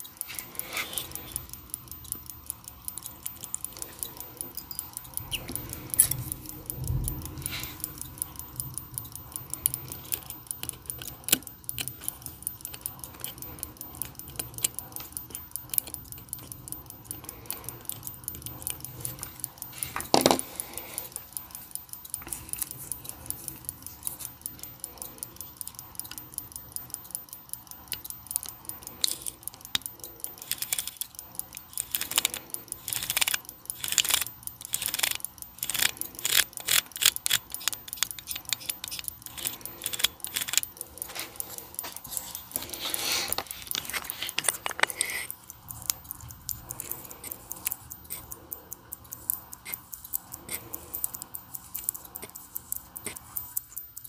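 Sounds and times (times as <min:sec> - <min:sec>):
tweezers clicking on metal: 0:00.0 - 0:54.0
watch movement ticking: 0:00.0 - 0:54.0.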